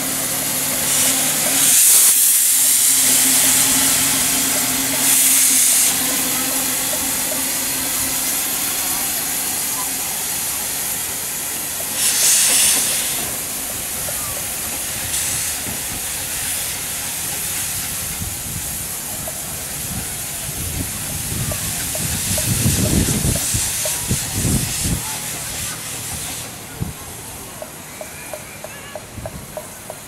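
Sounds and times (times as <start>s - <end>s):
burst of steam: 0.0s - 28.5s
low locomotive chuffs: 0.0s - 30.0s
steam locomotive hissing: 0.0s - 30.0s.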